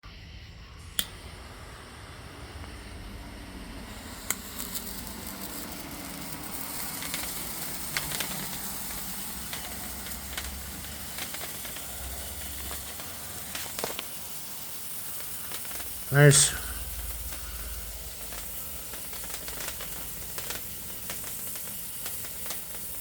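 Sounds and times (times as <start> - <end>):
firework fountain hissing: 0.0 - 23.0
firework crackles: 0.1 - 23.0
sharp firework crack: 1.0 - 23.0.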